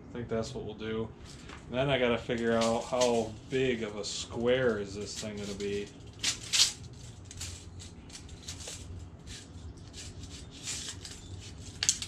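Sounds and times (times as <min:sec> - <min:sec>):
faint low hum: 0:00.0 - 0:12.0
fabric rustling and scraping: 0:02.3 - 0:12.0.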